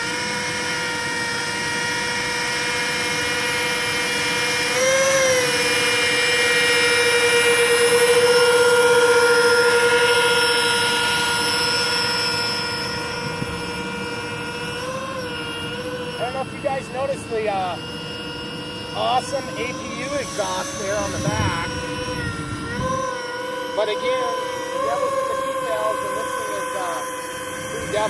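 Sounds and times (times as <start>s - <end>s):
electric ducted fans whining: 0.0s - 28.0s.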